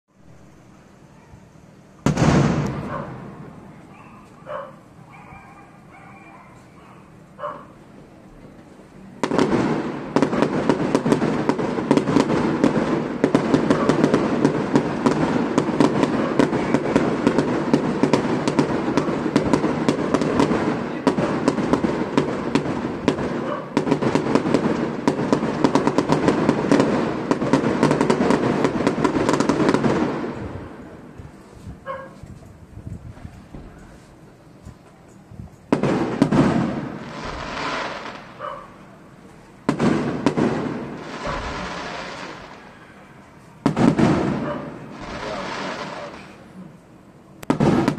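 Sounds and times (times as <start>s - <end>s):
fireworks crackling and banging: 0.1s - 5.0s, 8.2s - 47.9s.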